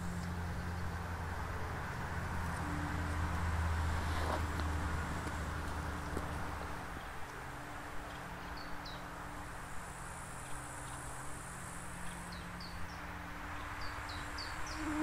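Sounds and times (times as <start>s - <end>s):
flies and bees buzzing: 0.0s - 15.0s
low background rush: 0.0s - 15.0s.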